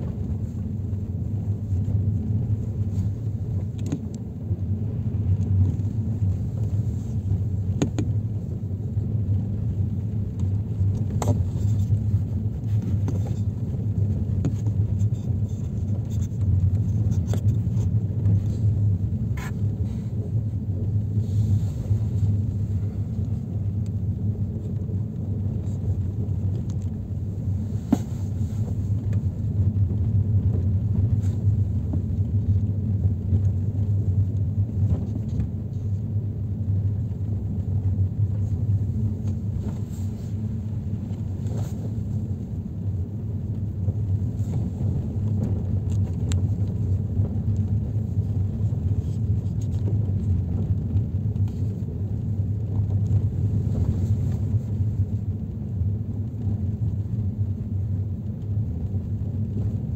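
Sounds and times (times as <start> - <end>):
car driving slowly: 0.0 - 59.9.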